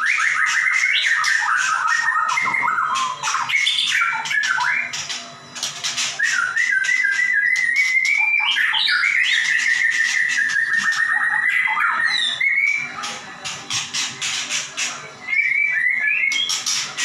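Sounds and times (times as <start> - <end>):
songbird whistling and rattling: 0.0 - 17.0.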